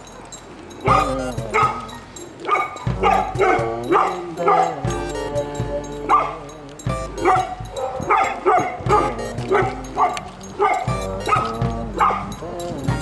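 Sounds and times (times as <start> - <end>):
short sharp pitched calls: 0.0 - 13.0
music with low tones: 0.8 - 13.0.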